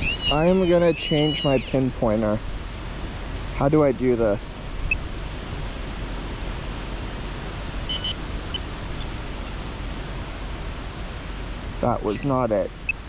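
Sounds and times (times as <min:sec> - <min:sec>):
wind blowing over microphone: 0:00.0 - 0:13.0.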